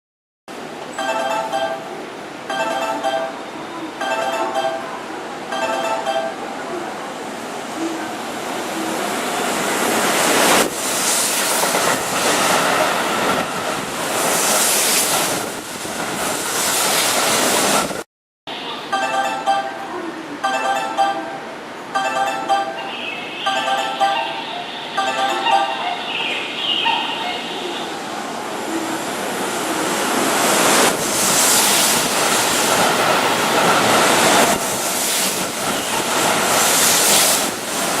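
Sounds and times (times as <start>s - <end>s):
electric train running past: 0.6s - 38.0s.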